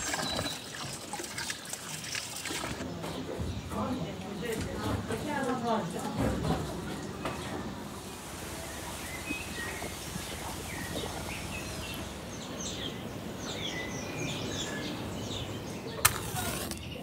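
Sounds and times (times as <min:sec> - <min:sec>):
birds chirping: 0:00.0 - 0:17.0
outdoor background noise: 0:00.0 - 0:17.0.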